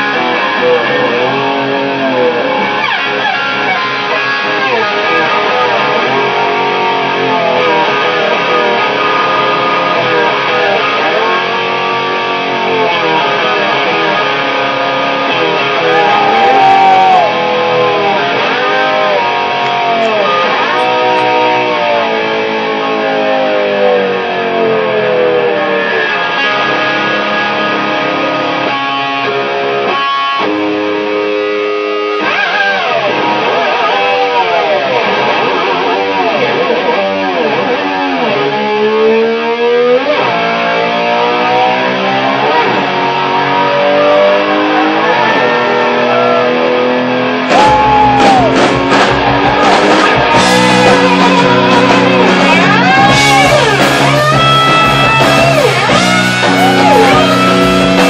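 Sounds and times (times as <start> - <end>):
electric slide guitar: 0.0 - 58.0.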